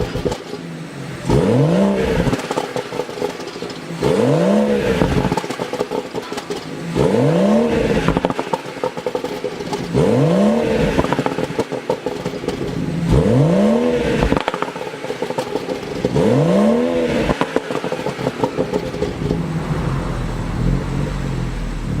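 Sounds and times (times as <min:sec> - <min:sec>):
car engine idling: 0:00.0 - 0:22.0
car engine revving with crackles: 0:00.0 - 0:22.0.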